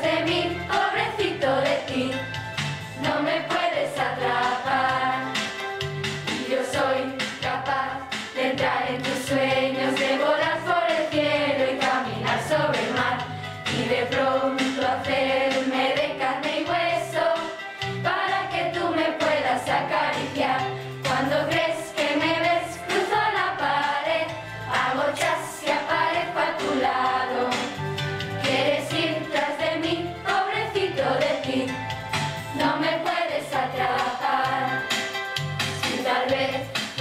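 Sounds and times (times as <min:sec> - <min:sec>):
voices singing: 0:00.0 - 0:02.3, 0:02.9 - 0:05.7, 0:06.3 - 0:31.8, 0:32.5 - 0:37.0
instrumental accompaniment: 0:00.0 - 0:37.0.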